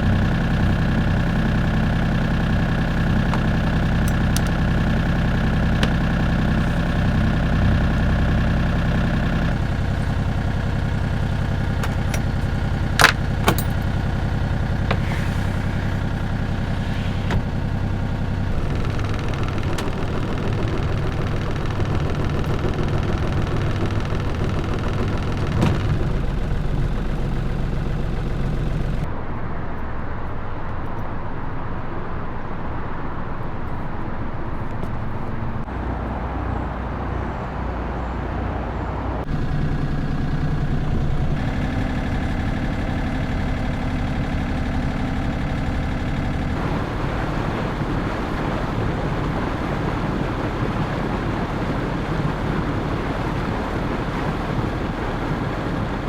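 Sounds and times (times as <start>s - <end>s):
boat motor running: 0.0s - 29.1s, 34.3s - 56.0s
water noise: 0.0s - 29.1s, 35.6s - 56.0s.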